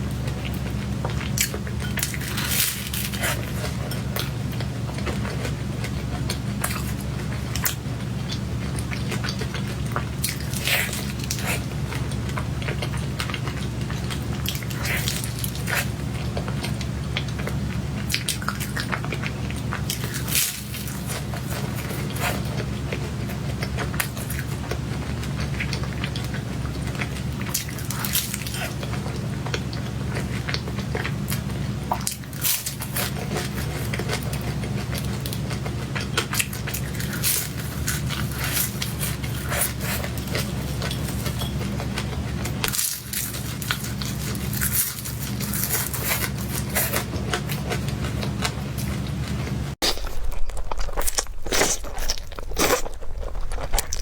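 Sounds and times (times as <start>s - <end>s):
steady low hum: 0.0s - 54.0s
person chewing and lip smacking: 0.2s - 54.0s.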